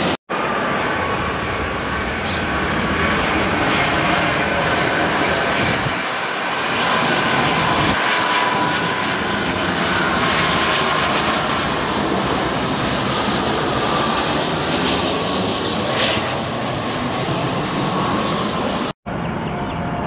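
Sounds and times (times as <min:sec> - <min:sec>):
jet engine high whine: 0:00.0 - 0:20.0
jet engines rushing noise: 0:00.0 - 0:20.0.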